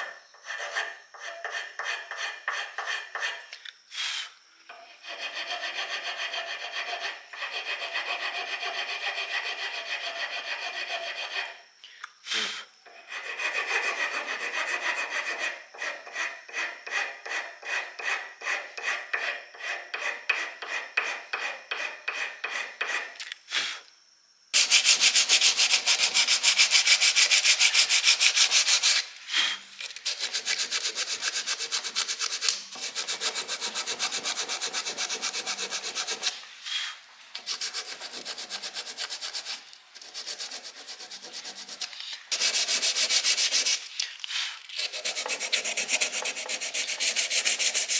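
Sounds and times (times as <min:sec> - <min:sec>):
rasping strokes on a knife: 0:00.0 - 0:11.8, 0:12.4 - 0:23.2, 0:24.6 - 0:47.9.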